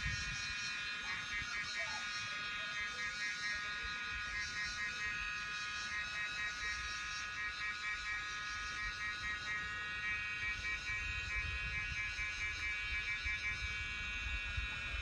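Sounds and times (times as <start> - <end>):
crickets chirping: 0.0 - 14.9.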